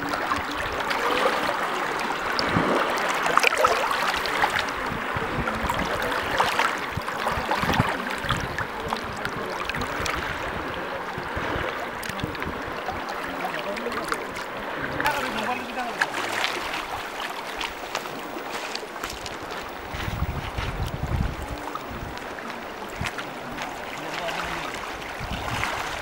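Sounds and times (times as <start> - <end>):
river water rushing: 0.0 - 26.0
water splashes and knocks: 0.0 - 26.0.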